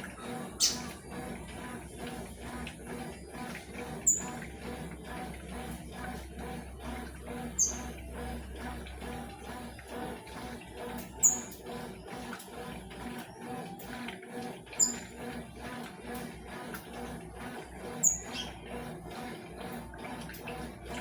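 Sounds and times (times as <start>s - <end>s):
washing machine churning: 0.0s - 21.0s.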